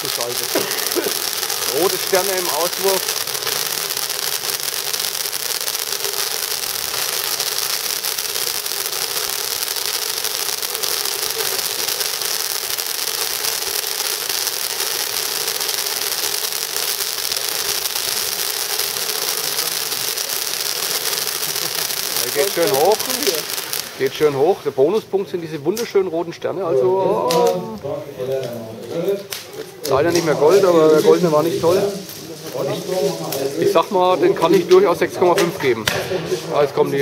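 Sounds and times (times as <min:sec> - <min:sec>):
firework fountain hissing: 0:00.0 - 0:28.4, 0:29.2 - 0:37.0.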